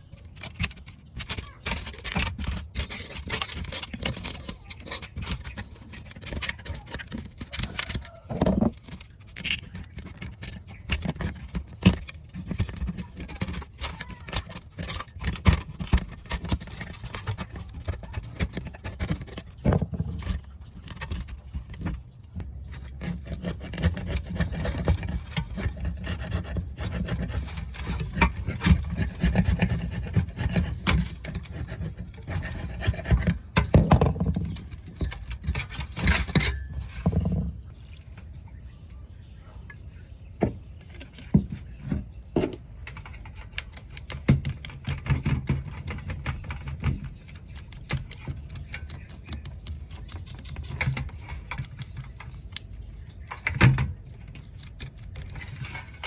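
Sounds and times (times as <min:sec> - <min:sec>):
tools clicking and knocking: 0:00.0 - 0:38.0, 0:40.4 - 0:56.0
scraping and rubbing on parts: 0:00.0 - 0:56.0.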